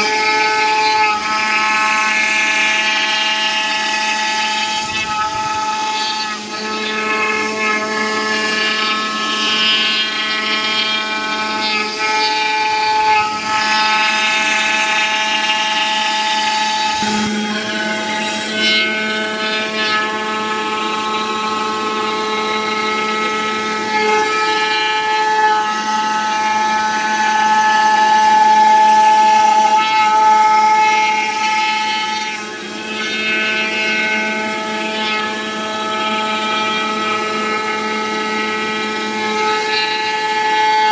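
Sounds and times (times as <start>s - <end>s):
milling spindle whining: 0.0s - 40.9s.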